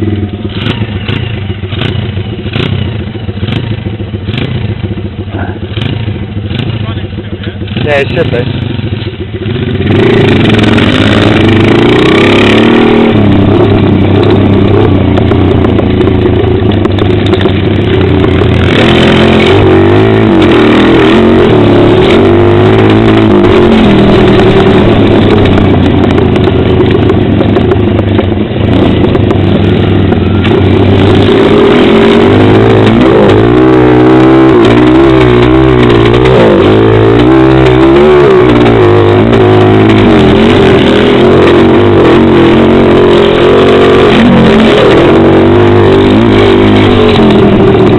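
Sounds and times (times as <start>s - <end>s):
pit bike engine revving: 0.0s - 47.9s.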